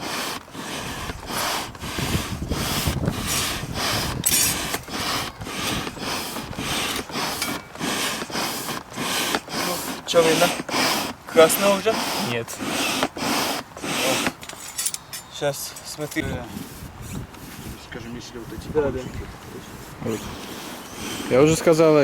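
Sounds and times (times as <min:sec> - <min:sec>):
hand pumped air whooshing: 0:00.0 - 0:14.9, 0:16.0 - 0:22.0.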